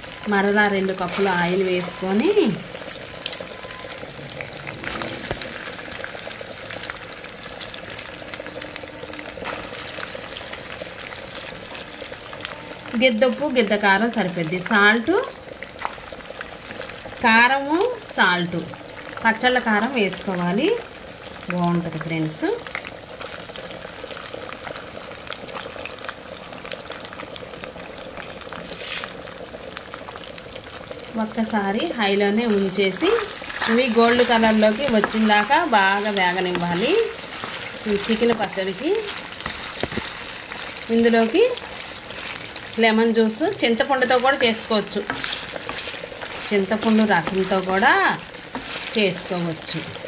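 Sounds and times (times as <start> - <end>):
chicken deep-frying in oil: 0.0 - 50.0.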